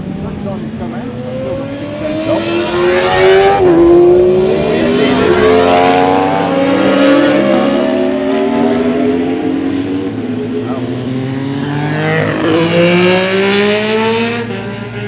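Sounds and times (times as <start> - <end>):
motorcycles accelerating past: 0.8 - 15.0.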